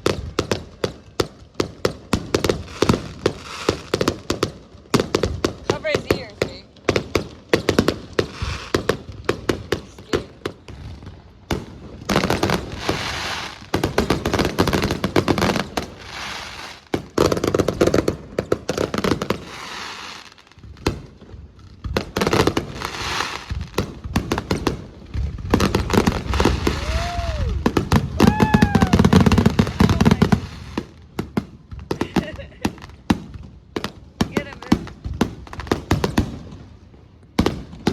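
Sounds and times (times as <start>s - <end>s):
fireworks crackling and banging: 0.0s - 37.9s.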